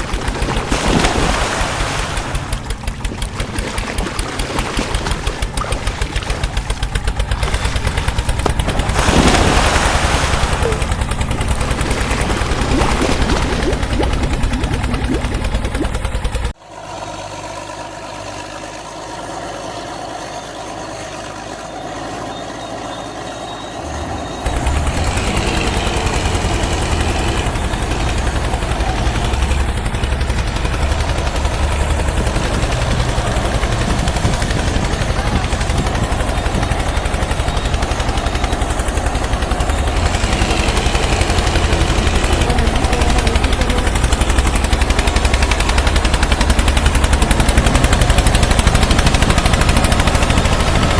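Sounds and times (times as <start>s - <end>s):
tractor engine chugging: 0.0s - 16.5s, 24.0s - 50.9s.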